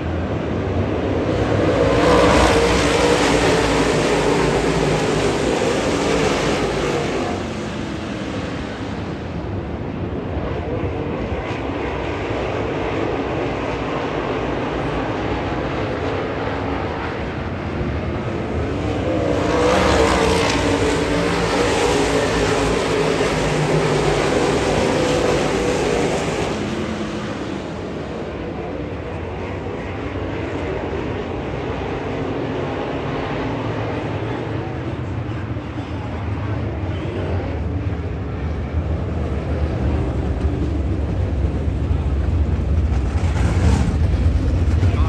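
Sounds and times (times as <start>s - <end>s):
race car engines droning: 0.0s - 45.0s.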